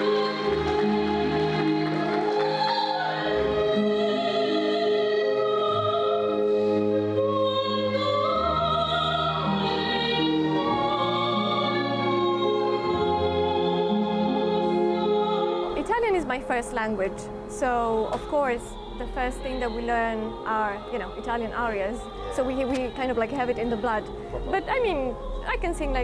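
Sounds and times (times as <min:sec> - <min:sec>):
woman singing opera: 0:00.0 - 0:26.0.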